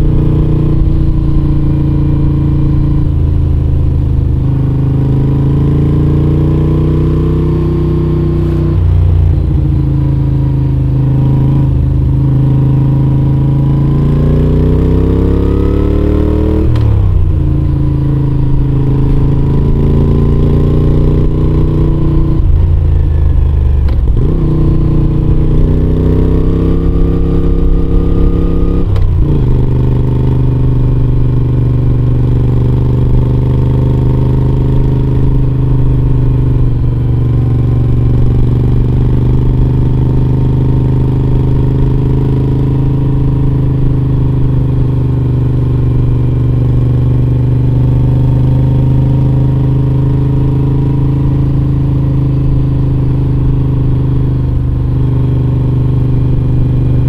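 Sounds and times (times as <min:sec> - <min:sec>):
motorcycle engine under way: 0:00.0 - 0:57.0.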